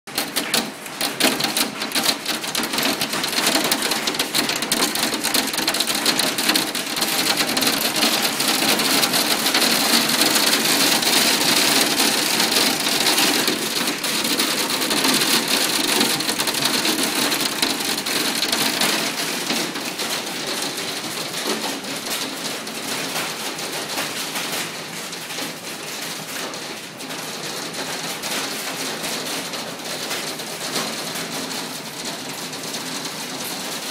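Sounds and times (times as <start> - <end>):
hail and heavy rain pelting: 0.1 - 33.9.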